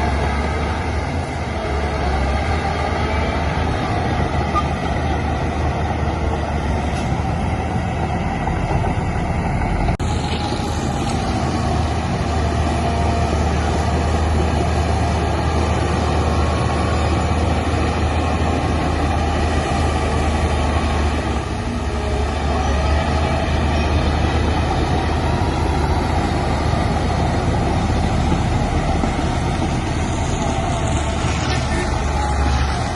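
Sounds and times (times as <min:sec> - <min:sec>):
heavy diesel engine humming: 0:00.0 - 0:32.9.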